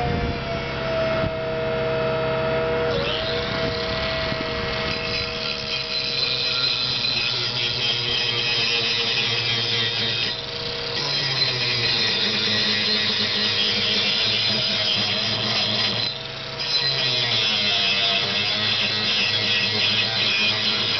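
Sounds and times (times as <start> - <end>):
angle grinder motor whine: 0.0 - 20.9.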